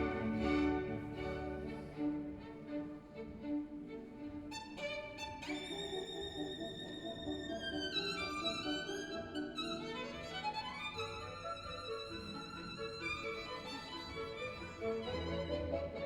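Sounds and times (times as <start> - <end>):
violin music: 0.0 - 16.0.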